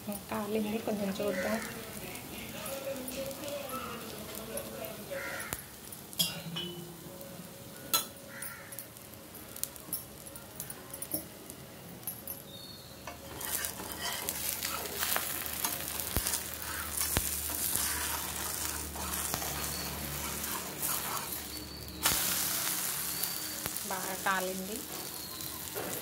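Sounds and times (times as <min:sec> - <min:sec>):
batter sizzling in oil: 0:00.0 - 0:11.7, 0:12.4 - 0:26.0.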